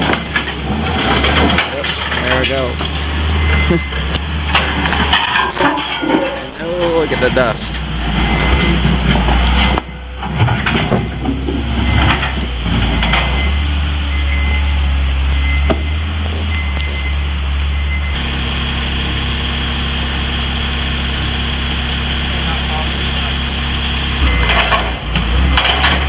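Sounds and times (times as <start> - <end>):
wheel loader diesel engine: 0.0 - 26.0.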